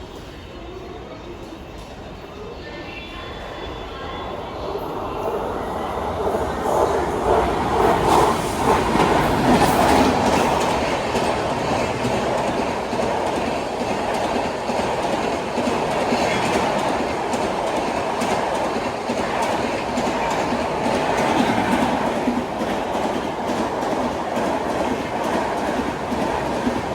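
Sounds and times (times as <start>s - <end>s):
passenger train passing: 0.0s - 26.9s.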